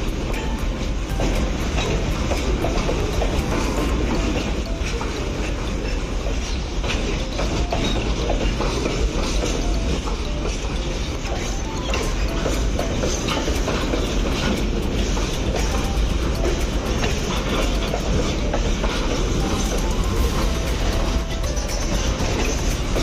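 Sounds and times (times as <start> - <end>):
train running noise: 0.0 - 23.0
wheels clicking over rail joints: 0.0 - 23.0.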